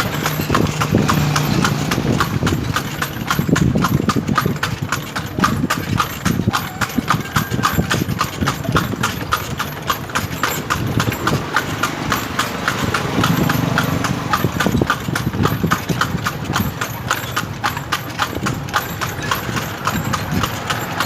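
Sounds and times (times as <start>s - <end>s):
horse hooves clip-clopping: 0.0s - 21.0s.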